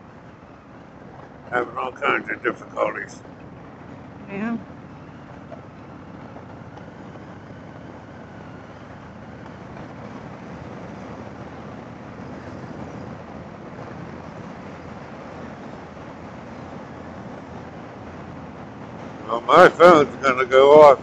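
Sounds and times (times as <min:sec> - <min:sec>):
wind rushing over microphone: 0:01.6 - 0:21.0.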